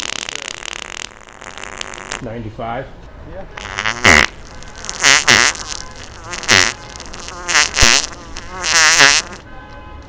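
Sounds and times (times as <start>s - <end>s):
loud rasping fart sounds: 0.0s - 2.3s, 3.6s - 9.4s.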